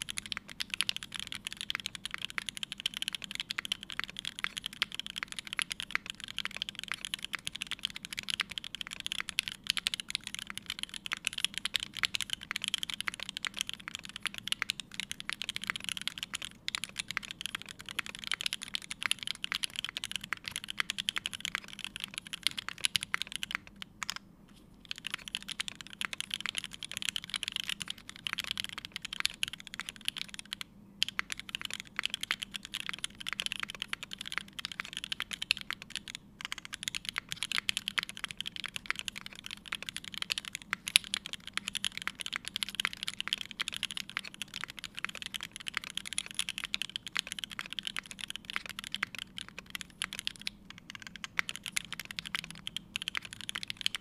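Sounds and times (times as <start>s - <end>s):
fast mechanical keyboard typing: 0.0s - 24.2s, 24.8s - 54.0s.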